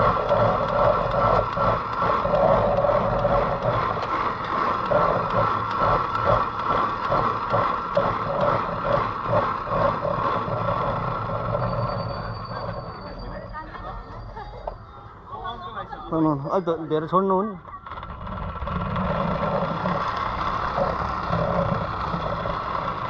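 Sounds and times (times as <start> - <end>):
zipline pulleys whining on cable: 0.0 - 23.0.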